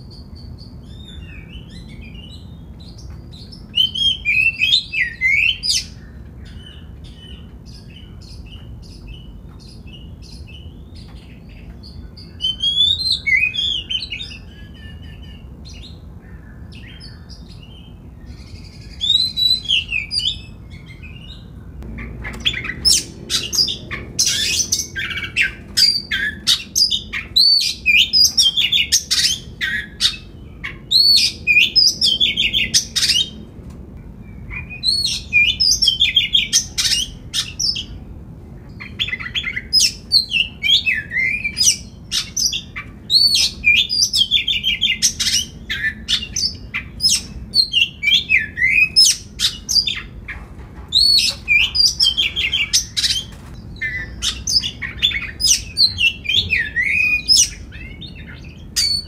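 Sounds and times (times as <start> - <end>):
bird singing whistled song: 0.0 - 16.0, 16.8 - 21.5, 22.2 - 33.3, 34.2 - 37.9, 38.7 - 50.1, 51.0 - 53.2, 53.8 - 59.0.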